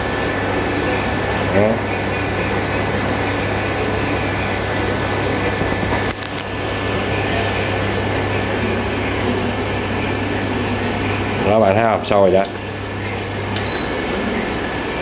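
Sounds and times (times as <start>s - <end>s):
water boiling in a pot: 0.0s - 13.6s
cooling fan whirring: 0.0s - 15.0s
low electrical hum: 0.0s - 15.0s.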